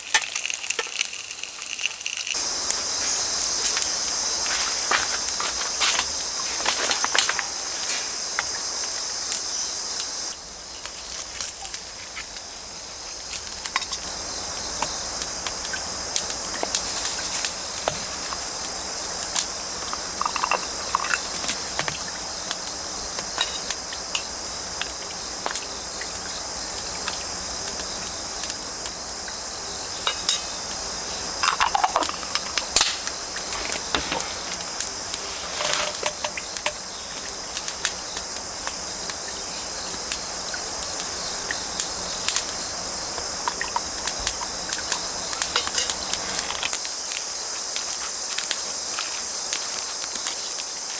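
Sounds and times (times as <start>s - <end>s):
crickets and insects chirring: 0.0s - 50.9s
firewood crackling and popping: 0.0s - 50.9s.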